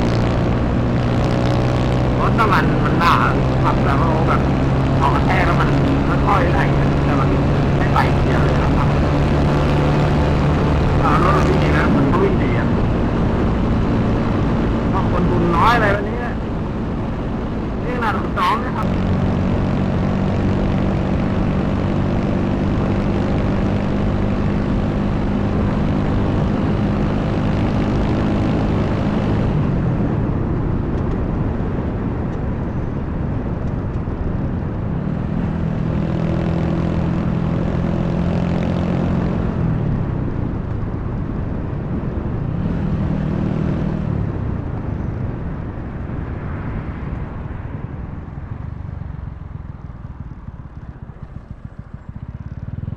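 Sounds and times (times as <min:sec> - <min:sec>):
motorcycle engine running: 0:00.0 - 0:30.8, 0:32.1 - 0:52.9
wind rush on microphone: 0:00.0 - 0:52.9.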